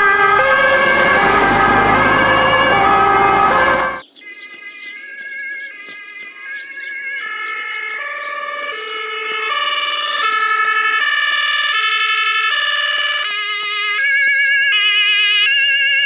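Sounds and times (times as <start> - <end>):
two-tone emergency sirens: 0.0 - 4.0, 7.2 - 16.0.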